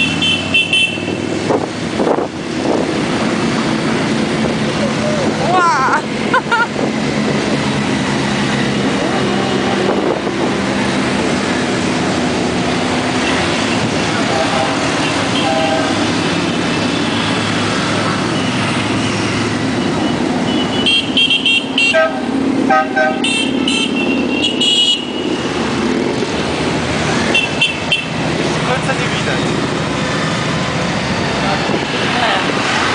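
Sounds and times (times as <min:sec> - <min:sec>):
motorcycle engines running: 0:00.0 - 0:32.9.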